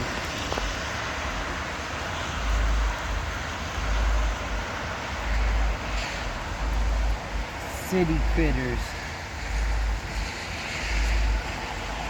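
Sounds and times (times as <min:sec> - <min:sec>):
city traffic hiss: 0:00.0 - 0:12.0
wind buffeting microphone: 0:00.0 - 0:12.0.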